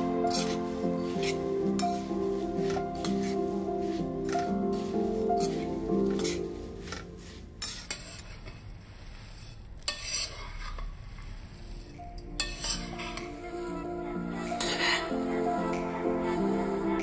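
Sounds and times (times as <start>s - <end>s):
puffed rice rustling in pan: 0.0s - 13.7s
spatula scraping pan: 0.0s - 13.8s, 14.6s - 15.2s.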